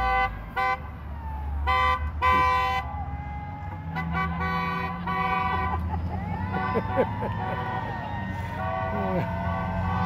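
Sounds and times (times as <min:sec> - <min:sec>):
car horns honking: 0:00.0 - 0:01.0, 0:01.6 - 0:10.0
traffic rumble: 0:00.0 - 0:10.0.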